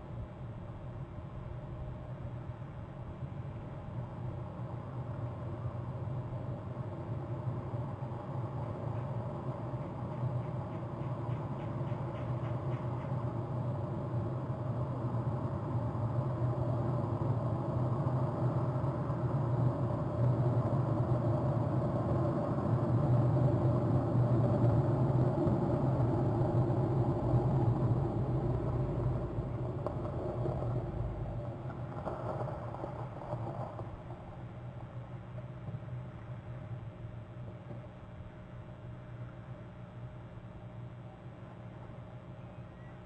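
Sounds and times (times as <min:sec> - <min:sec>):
motor engine hum: 0:02.9 - 0:42.8.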